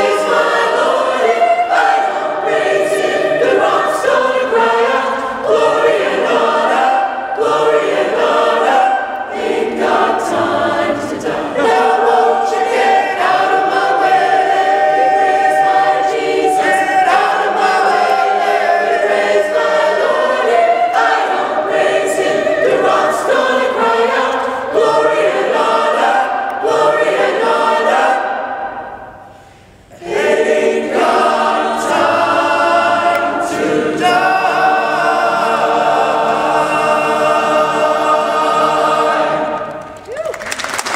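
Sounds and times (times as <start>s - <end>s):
mixed choir singing a spiritual: 0.0s - 40.1s.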